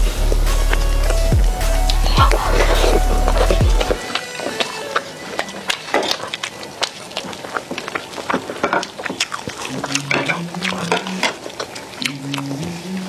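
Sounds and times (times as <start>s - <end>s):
wet chewing and lip smacking: 0.2s - 13.0s.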